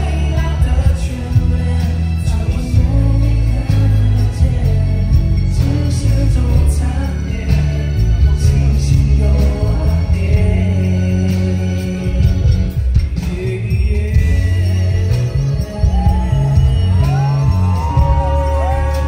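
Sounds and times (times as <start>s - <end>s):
live pop music with heavy bass: 0.0s - 19.0s
person singing: 0.0s - 19.0s.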